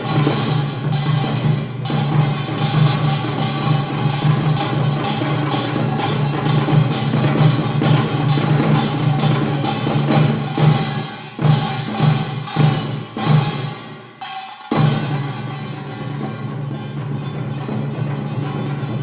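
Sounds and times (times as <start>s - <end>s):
percussion ensemble fast beat: 0.0s - 19.0s.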